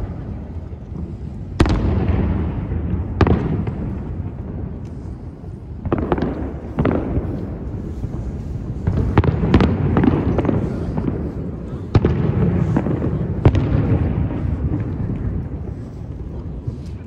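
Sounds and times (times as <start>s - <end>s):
distant firework booms: 0.9s - 4.8s, 5.8s - 15.7s.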